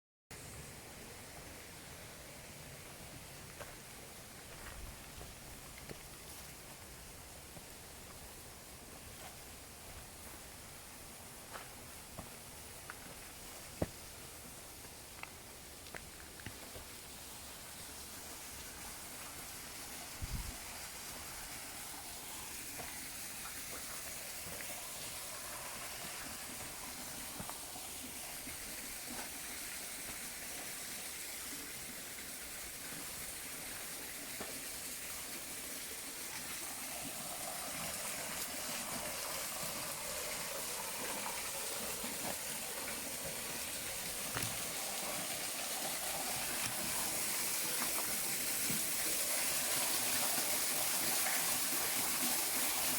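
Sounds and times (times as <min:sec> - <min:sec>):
rushing water: 0:00.3 - 0:52.9.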